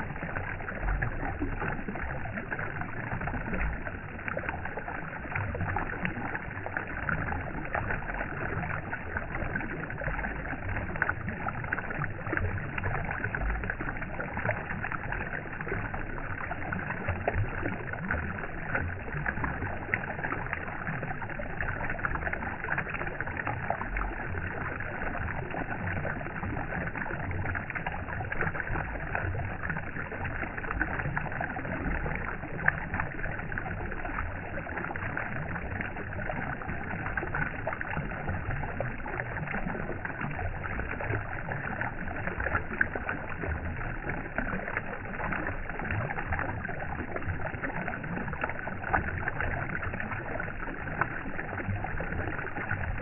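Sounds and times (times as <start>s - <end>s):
rushing water with crackle: 0.0s - 53.0s.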